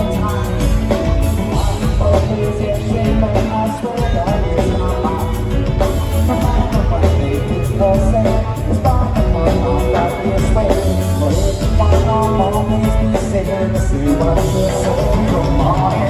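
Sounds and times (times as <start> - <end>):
live rock band playing: 0.0 - 16.0
person singing: 0.0 - 16.0
strong steady bass: 0.0 - 16.0.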